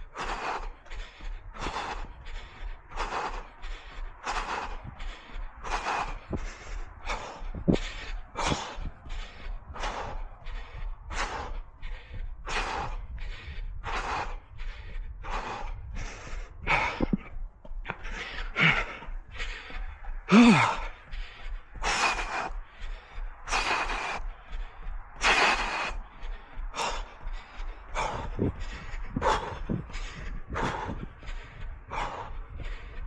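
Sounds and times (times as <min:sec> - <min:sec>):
runner breathing hard: 0:00.0 - 0:33.0
voiced gasp: 0:00.0 - 0:33.0.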